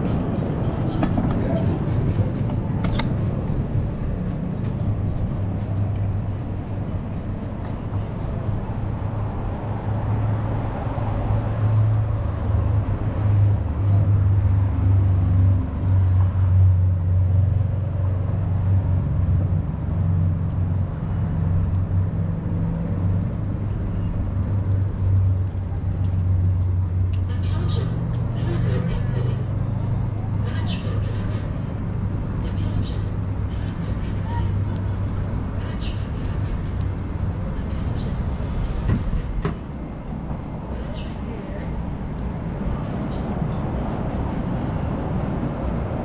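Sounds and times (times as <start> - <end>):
road rumble: 0.0 - 46.0
vehicle engine drone: 0.0 - 46.0.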